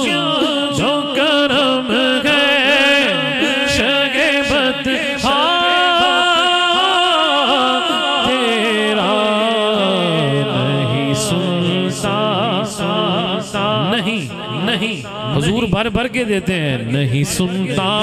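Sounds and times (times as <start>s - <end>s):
man singing into a microphone: 0.0s - 18.0s.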